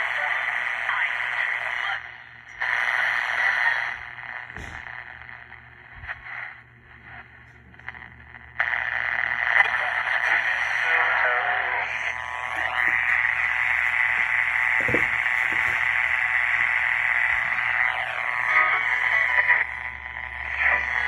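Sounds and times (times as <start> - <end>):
faint broadcast voice: 0.0 - 5.4, 7.1 - 21.0
radio static: 0.0 - 21.0.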